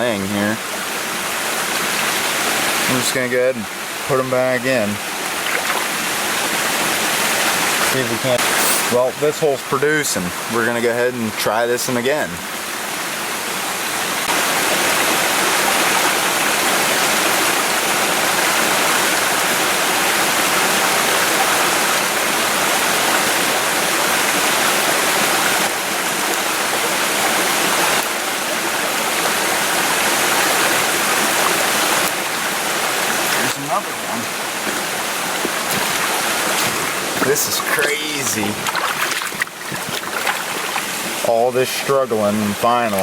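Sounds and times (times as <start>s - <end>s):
stream running over rocks: 0.0s - 43.0s.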